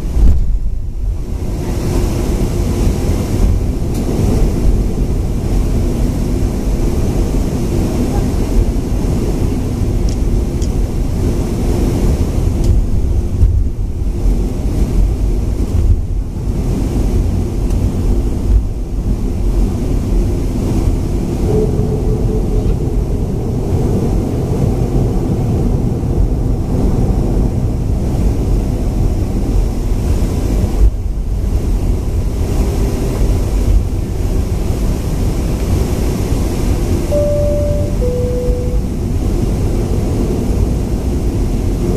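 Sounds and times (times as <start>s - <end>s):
cabin air flow: 0.0s - 40.2s
jet engines idling rumble: 0.0s - 41.9s.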